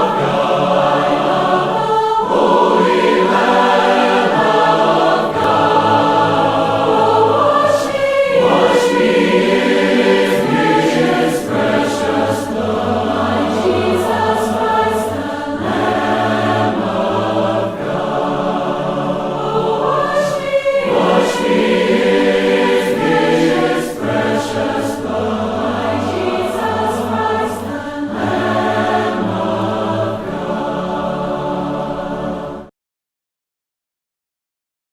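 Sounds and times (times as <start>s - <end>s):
choir singing a hymn: 0.0s - 32.7s.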